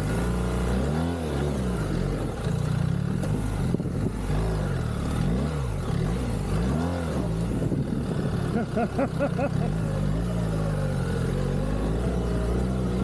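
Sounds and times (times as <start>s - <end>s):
motorcycle engine revving: 0.0s - 13.0s
wind and riding noise: 0.0s - 13.0s.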